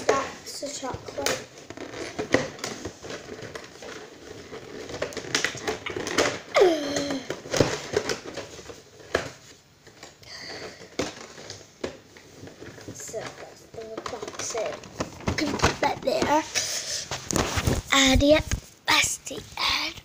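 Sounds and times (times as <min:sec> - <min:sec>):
plastic packaging crinkling: 0:00.0 - 0:19.9.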